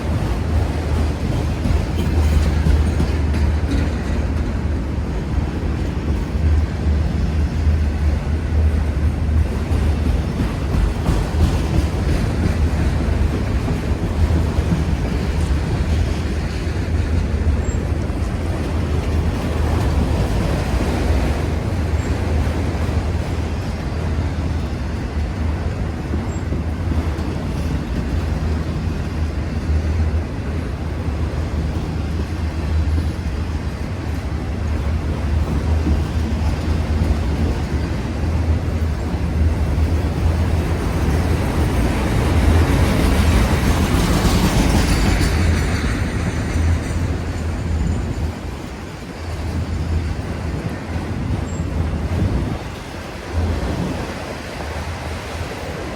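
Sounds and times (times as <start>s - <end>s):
freight train rolling past: 0.0s - 55.9s.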